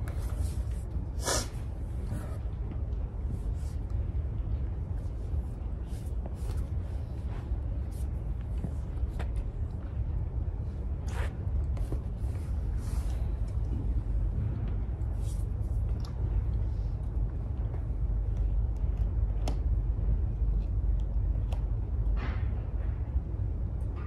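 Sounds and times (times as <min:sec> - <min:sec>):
low rumble of gym room noise: 0:00.0 - 0:24.0.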